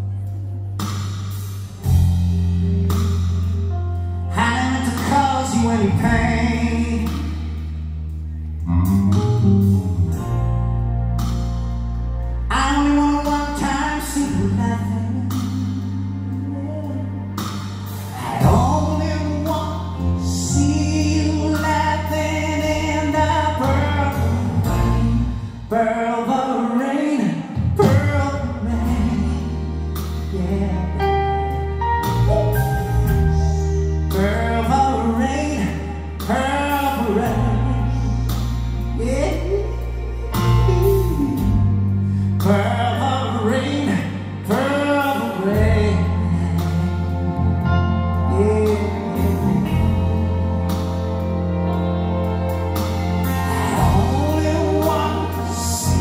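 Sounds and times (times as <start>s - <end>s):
rock band playing: 0.0s - 56.0s
strings and saxophones: 0.0s - 56.0s
man singing: 4.2s - 7.7s, 12.4s - 56.0s.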